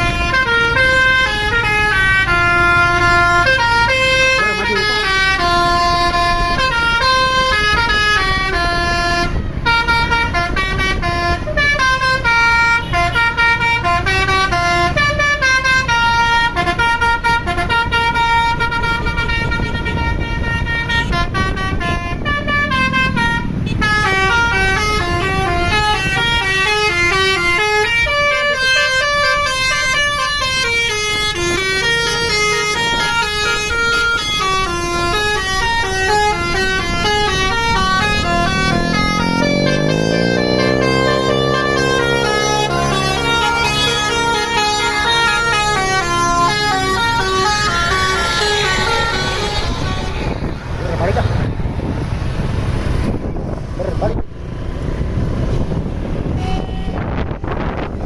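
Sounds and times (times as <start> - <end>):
musical air horn tune: 0.0 - 50.6, 56.3 - 57.9
bus engine running: 0.0 - 58.0.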